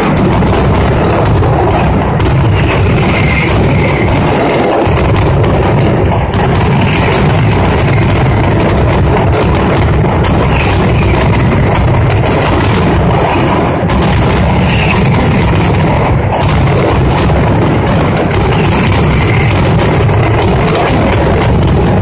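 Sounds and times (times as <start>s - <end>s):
firecrackers barrage: 0.0s - 22.0s
heavy booms: 0.0s - 22.0s.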